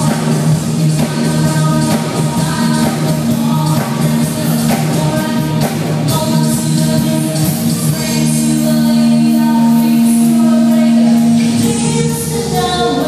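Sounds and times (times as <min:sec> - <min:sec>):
drum beat: 0:00.0 - 0:12.8
pop-rock band playing: 0:00.0 - 0:13.0
woman singing: 0:00.0 - 0:13.0.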